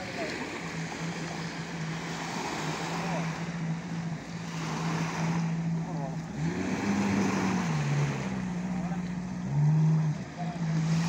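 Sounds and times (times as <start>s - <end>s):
jet ski engine idling: 0.0s - 11.0s
small waves washing on beach: 0.0s - 11.0s.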